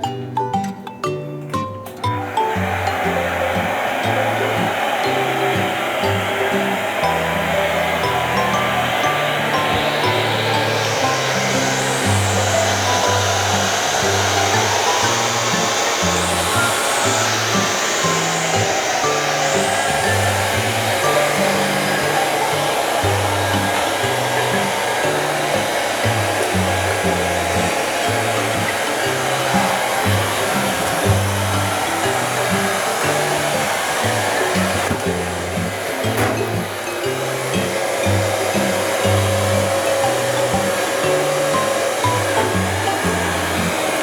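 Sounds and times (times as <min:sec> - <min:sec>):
hair dryer blowing: 0:02.0 - 0:44.0.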